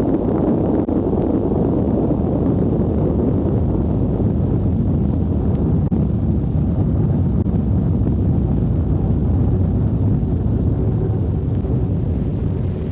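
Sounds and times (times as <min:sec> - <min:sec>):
loud low rumbling: 0:00.0 - 0:12.9.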